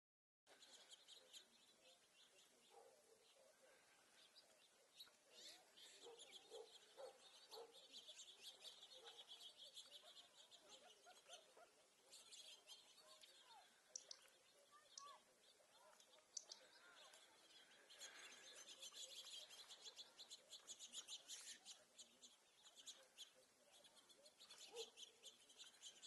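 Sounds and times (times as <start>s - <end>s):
small birds chirping and twittering: 0.5s - 26.0s.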